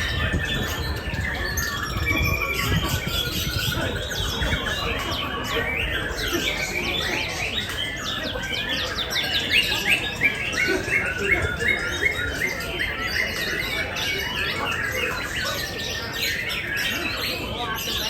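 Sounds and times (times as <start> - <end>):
songbirds singing and chirping: 0.0 - 18.0.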